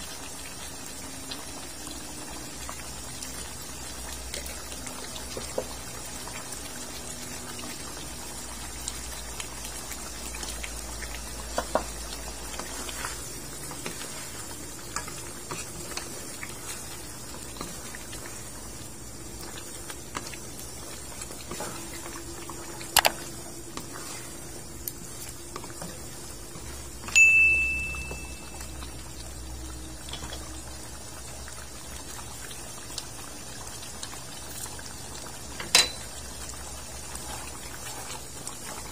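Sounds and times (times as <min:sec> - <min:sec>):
sauce bubbling in a pan: 0:00.0 - 0:38.9.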